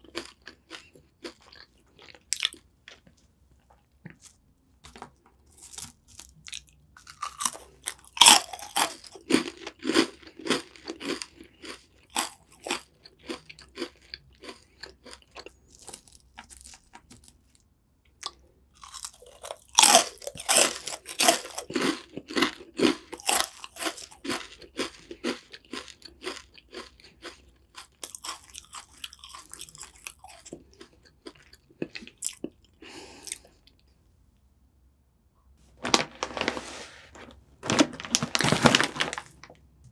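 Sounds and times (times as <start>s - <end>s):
snack sticks crunching: 0.0s - 3.1s, 3.9s - 33.8s.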